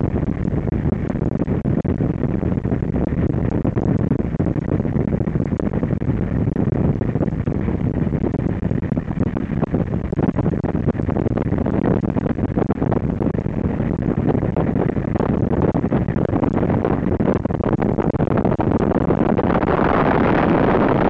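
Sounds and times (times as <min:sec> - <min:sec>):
air rushing around glider cockpit: 0:00.0 - 0:21.0
wind buffeting microphone: 0:00.0 - 0:21.0.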